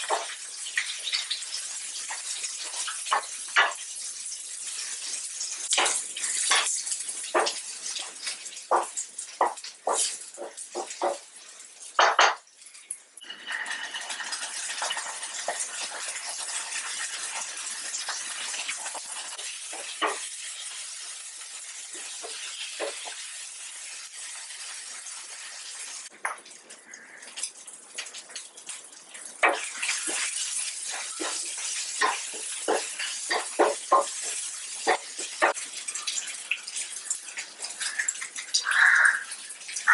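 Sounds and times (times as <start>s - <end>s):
oil sizzling in a frying pan: 0.0s - 39.9s.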